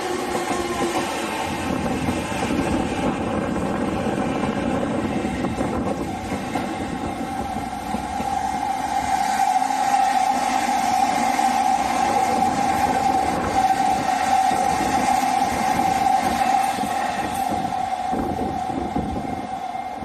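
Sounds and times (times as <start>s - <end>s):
electric train rumbling on tracks: 0.0s - 20.0s.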